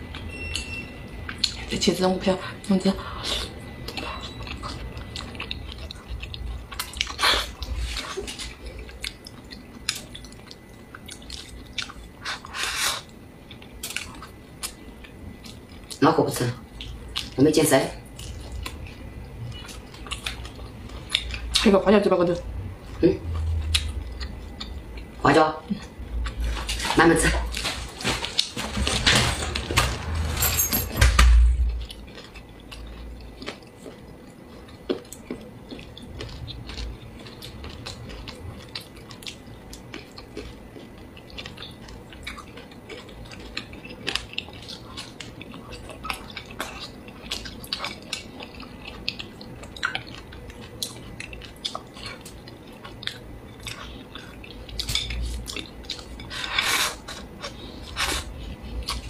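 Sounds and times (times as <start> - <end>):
chewing and wet mouth sounds: 0.0 - 28.8, 31.6 - 59.0.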